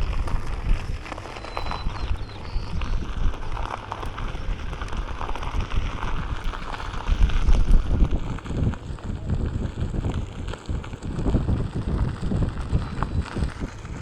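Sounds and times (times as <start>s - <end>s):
board wheel rolling on trail: 0.0s - 14.0s
clicks and crackles: 0.0s - 14.0s
wind buffeting microphone: 0.0s - 14.0s.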